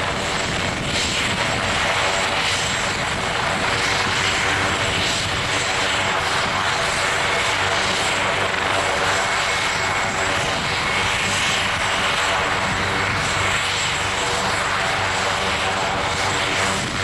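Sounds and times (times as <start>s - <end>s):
helicopter turbine whine and rotors: 0.0s - 17.0s.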